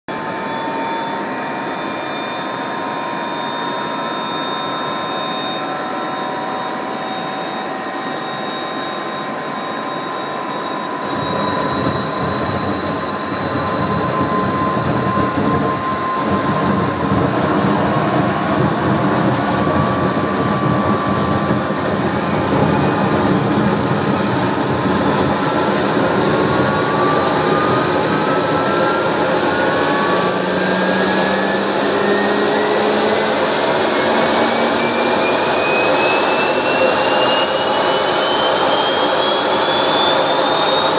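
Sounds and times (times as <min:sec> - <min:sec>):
jet engine whine: 0:00.1 - 0:40.9.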